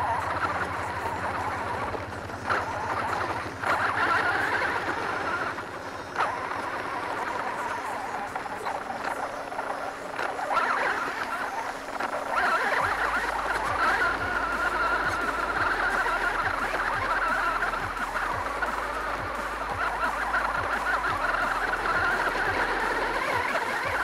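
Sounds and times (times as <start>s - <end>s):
rc car driving over gravel: 0.0s - 24.0s.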